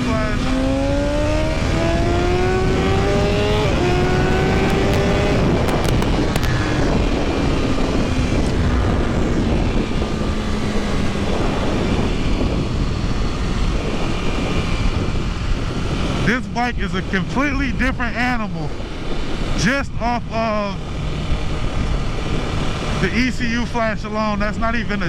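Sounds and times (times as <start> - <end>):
motorcycle engine revving: 0.0 - 23.4.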